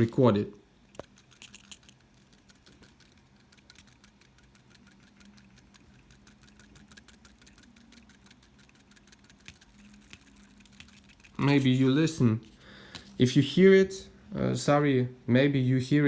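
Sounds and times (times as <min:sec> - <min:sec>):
watch rotor rattling: 0:00.0 - 0:13.2.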